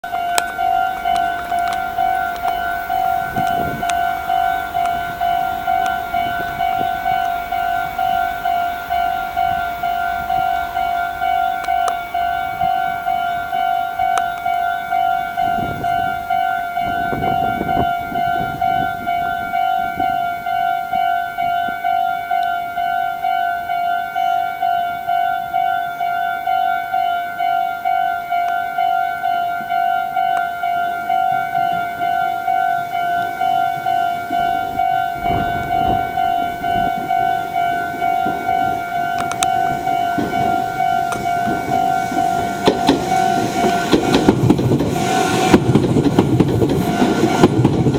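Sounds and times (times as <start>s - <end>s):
level crossing alarm bell: 0.0s - 47.9s.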